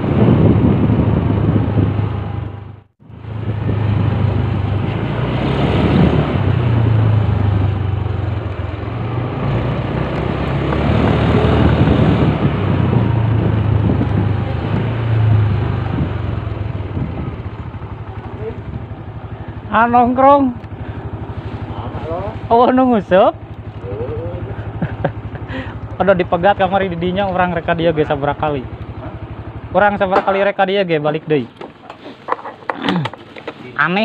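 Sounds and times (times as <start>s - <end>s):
motorcycle engine running: 0.0s - 33.5s.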